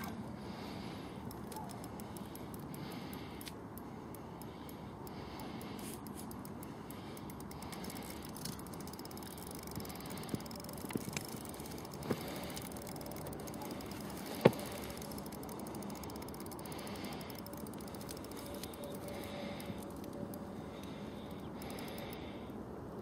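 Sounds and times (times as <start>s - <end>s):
fishing reel ticking and whirring: 0.0s - 23.0s
sharp reel clicks: 1.2s - 22.5s.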